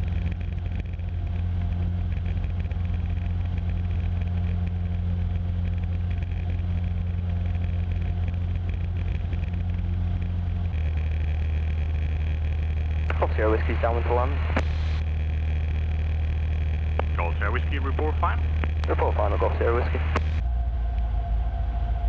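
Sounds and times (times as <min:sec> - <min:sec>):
light aircraft engine droning: 0:00.0 - 0:22.0.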